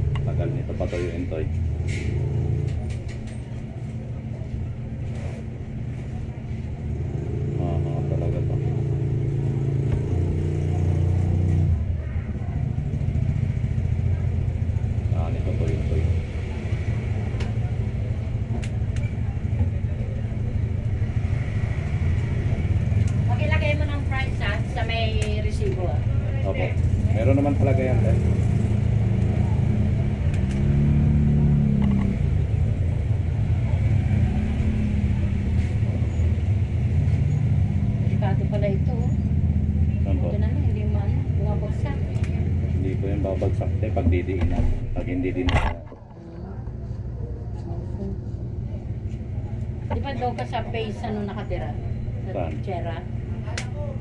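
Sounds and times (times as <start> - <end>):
engine running: 0.0 - 54.0
low motor rumble: 0.0 - 54.0.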